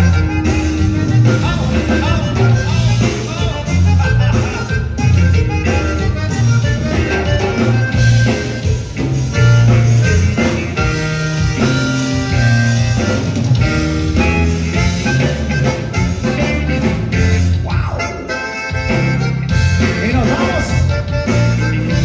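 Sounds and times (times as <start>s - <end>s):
bass guitar: 0.0s - 22.0s
button accordion: 0.0s - 22.0s
drum kit: 0.0s - 22.0s
electric guitar: 0.0s - 22.0s.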